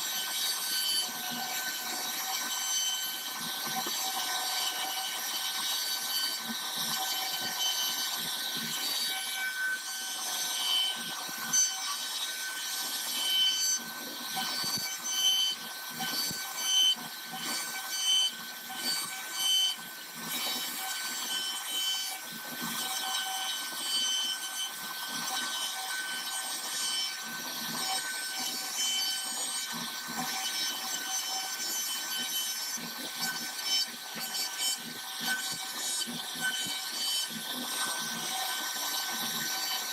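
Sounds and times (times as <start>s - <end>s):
cutter rasping into wood: 0.0s - 39.9s
router spindle whine: 0.0s - 39.9s.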